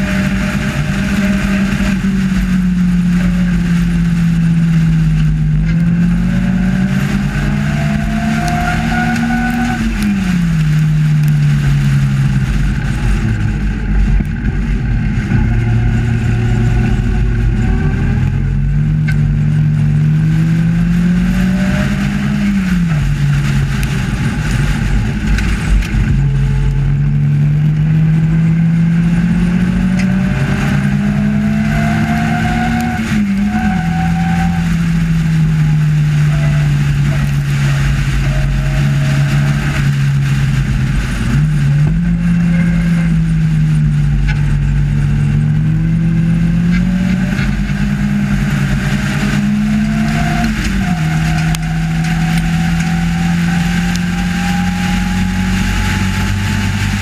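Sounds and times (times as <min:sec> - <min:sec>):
racing car engine: 0:00.0 - 0:57.0
wind rush: 0:00.0 - 0:57.0.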